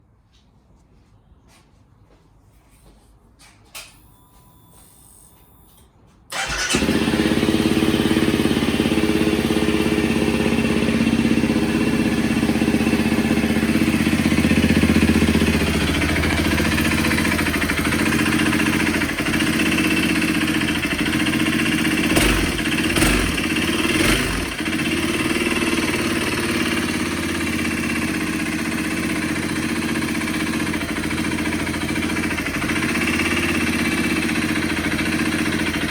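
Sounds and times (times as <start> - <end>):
motorcycle engine starting and idling: 5.7 - 35.9
abnormal engine noise: 6.4 - 35.9.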